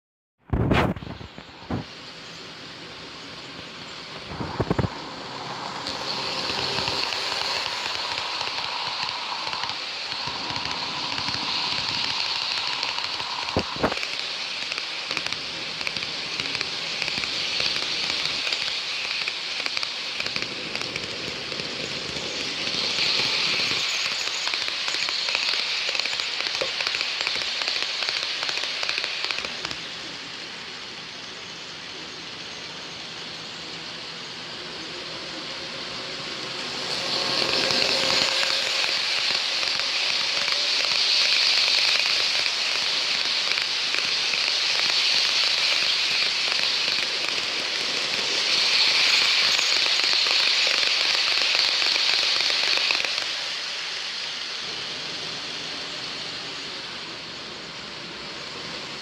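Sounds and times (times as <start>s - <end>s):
train running on rails: 0.5s - 59.0s.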